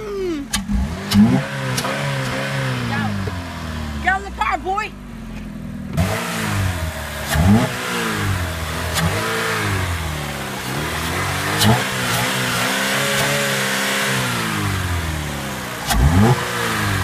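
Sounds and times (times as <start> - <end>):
car engine revving: 0.2 - 17.0.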